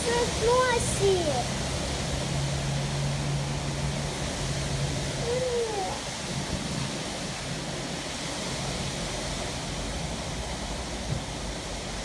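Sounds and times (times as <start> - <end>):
storm wind through trees: 0.0 - 12.0.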